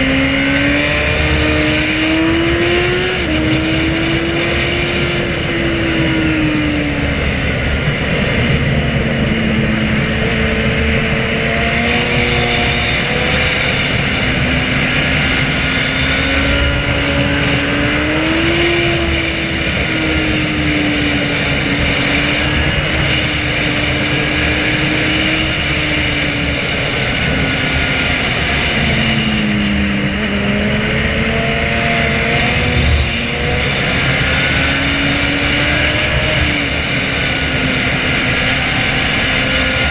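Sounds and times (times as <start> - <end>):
motorcycle engine riding: 0.0 - 39.9
steady rushing noise: 0.0 - 39.9.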